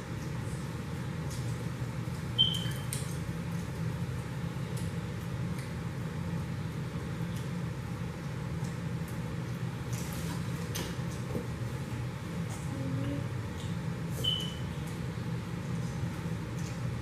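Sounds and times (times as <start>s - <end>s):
children chewing and smacking: 0.0s - 17.0s
steady low hum: 0.0s - 17.0s.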